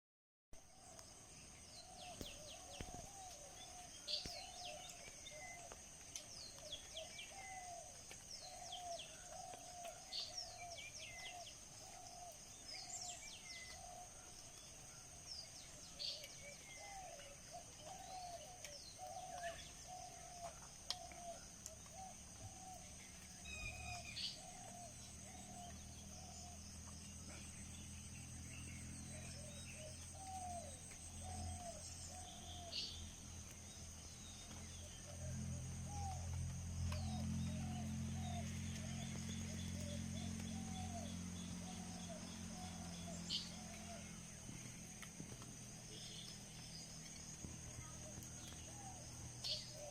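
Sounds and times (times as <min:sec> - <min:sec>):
birds chirping: 0:00.6 - 0:49.9
low repeated bird calls: 0:00.6 - 0:49.9.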